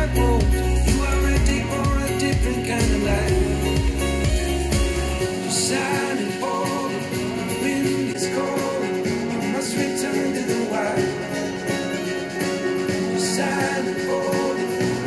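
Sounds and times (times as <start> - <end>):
song with guitar and vocals: 0.0 - 15.0.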